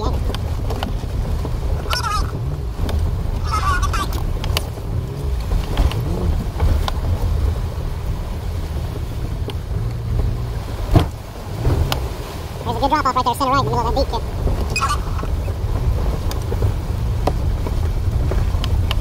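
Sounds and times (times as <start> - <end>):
car engine running at low speed: 0.0 - 19.0
water splashing against vehicle: 0.0 - 19.0.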